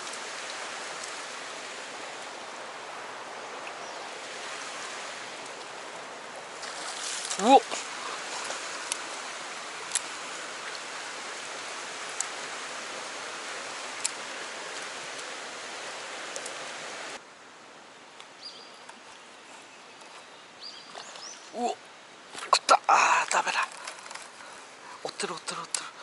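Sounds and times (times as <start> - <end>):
river current rushing: 0.0 - 19.8, 20.4 - 26.0.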